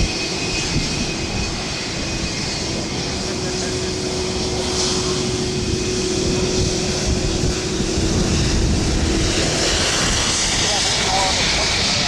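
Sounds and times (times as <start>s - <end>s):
jet engines at takeoff power: 0.0s - 12.0s.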